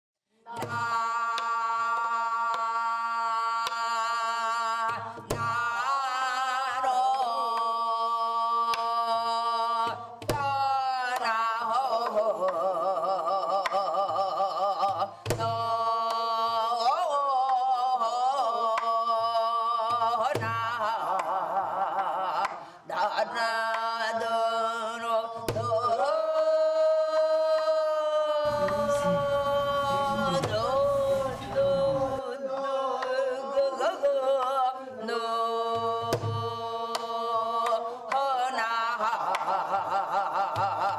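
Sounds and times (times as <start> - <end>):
person singing wordless melody: 0.4 - 40.9.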